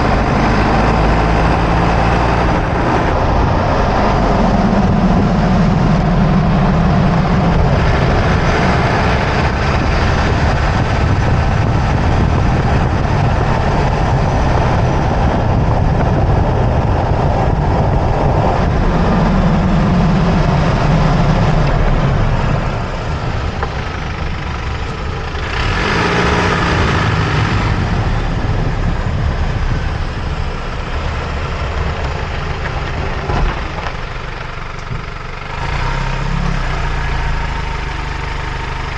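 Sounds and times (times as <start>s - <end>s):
car engine running: 0.0s - 38.9s
tyre and suspension noise: 0.0s - 38.9s.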